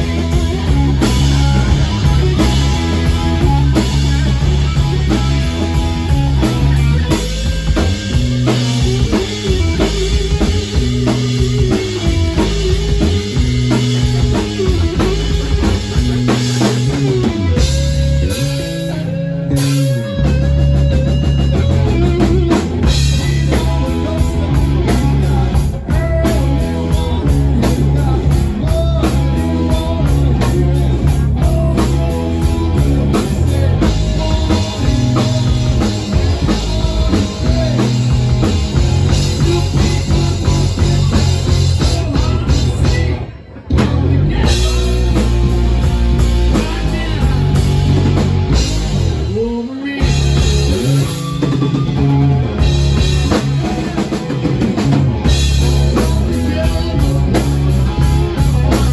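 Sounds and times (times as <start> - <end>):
drum kit: 0.0 - 58.9
electric guitar: 0.0 - 58.9.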